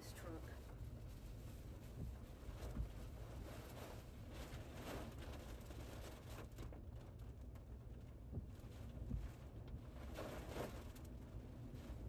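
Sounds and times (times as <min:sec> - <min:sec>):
wind buffeting truck cab: 0:00.7 - 0:12.0.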